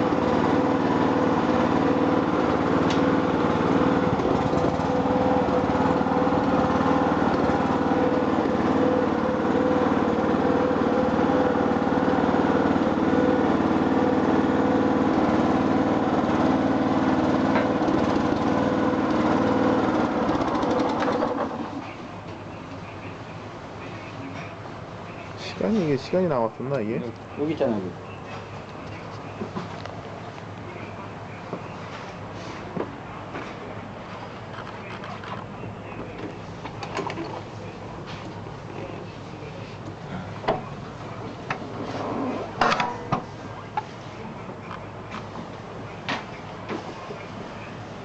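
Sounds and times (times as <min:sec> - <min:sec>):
small excavator engine running: 0:00.0 - 0:48.0.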